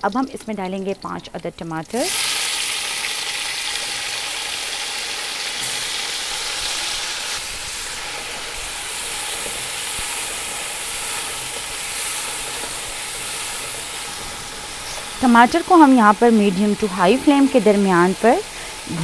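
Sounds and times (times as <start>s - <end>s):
tomatoes sizzling in hot oil: 0.0s - 19.0s.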